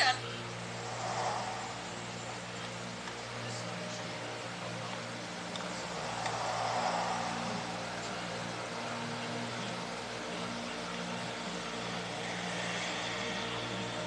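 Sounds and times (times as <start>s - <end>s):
city traffic hum: 0.0s - 14.0s.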